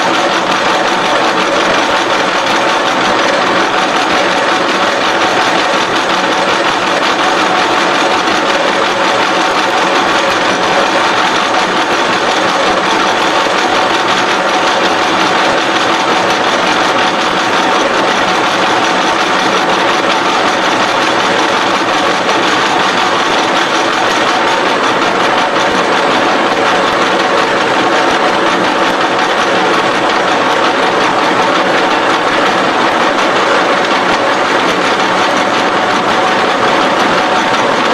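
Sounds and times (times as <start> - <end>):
constant machine hum: 0.0 - 37.9.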